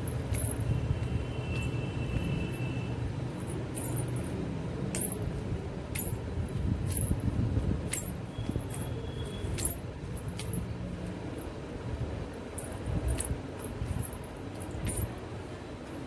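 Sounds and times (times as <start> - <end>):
anklets jingling: 0.0 - 2.8, 3.4 - 5.3, 5.9 - 11.7, 12.5 - 16.0
low background rumble: 0.0 - 16.0.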